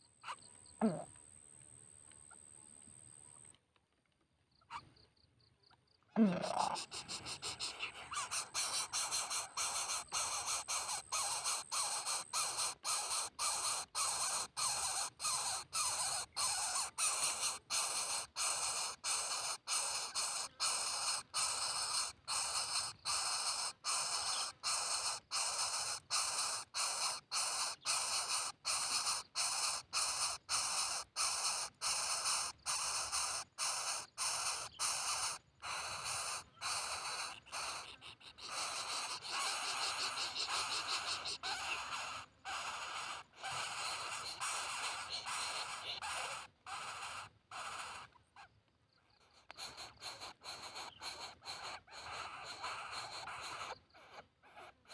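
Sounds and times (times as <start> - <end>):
bird chicks hissing calls: 6.2 - 48.5, 49.2 - 54.9.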